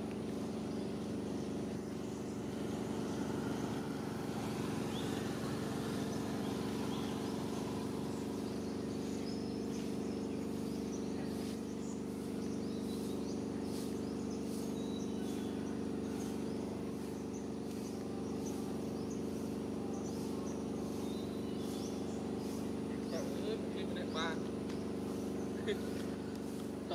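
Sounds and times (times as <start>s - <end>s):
bird chirps: 0.0s - 26.9s
low motor hum: 0.0s - 26.9s.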